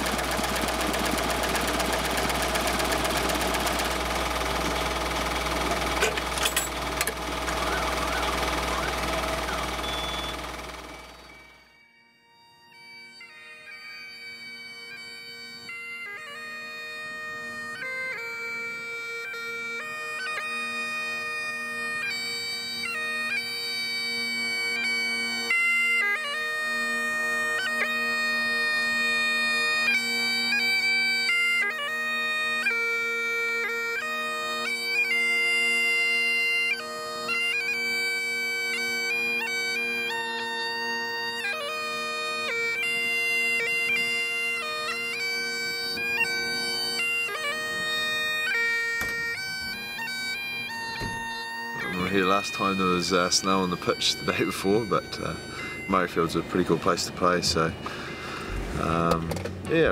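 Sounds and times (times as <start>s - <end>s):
bagpipes playing melody: 0.0s - 59.9s.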